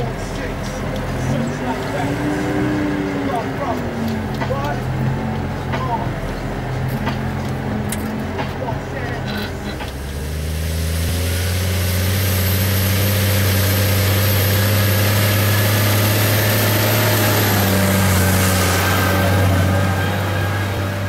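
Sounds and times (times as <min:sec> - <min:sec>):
tractor diesel engine drone: 0:00.0 - 0:21.0.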